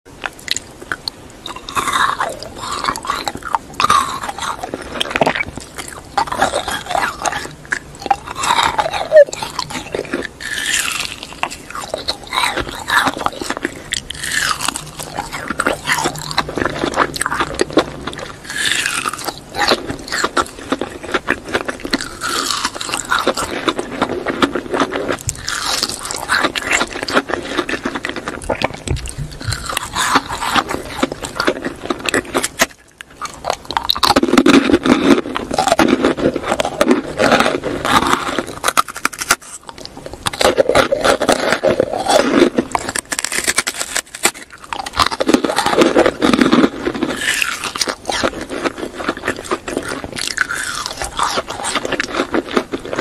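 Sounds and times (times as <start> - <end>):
biting and chewing candy: 0.1 - 53.0
wet mouth sounds: 0.1 - 53.0.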